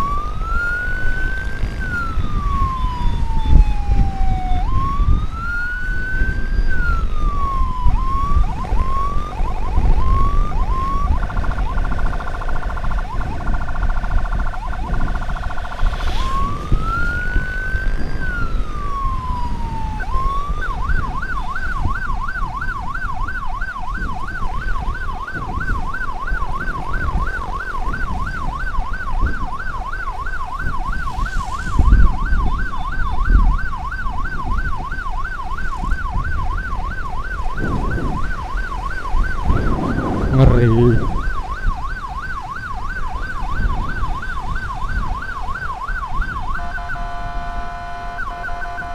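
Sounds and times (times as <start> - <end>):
electronic emergency siren: 0.0 - 48.9.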